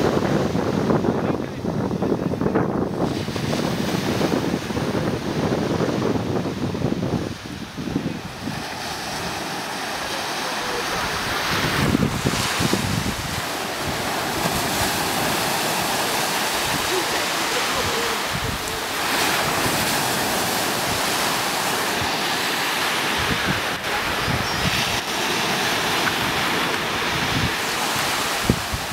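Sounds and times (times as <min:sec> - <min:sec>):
surf: 0:00.0 - 0:28.9
wind: 0:00.0 - 0:28.9
wind buffeting microphone: 0:00.0 - 0:28.9.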